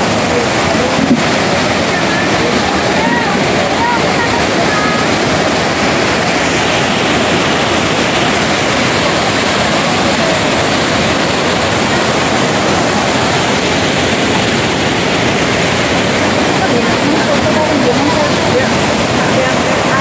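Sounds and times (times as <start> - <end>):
water rushing over weir: 0.0 - 20.0.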